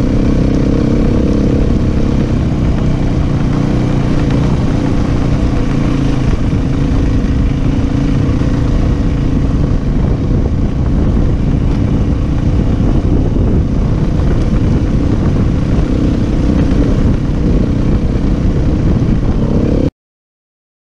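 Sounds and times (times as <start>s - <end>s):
dirt bike engine running: 0.0s - 19.9s.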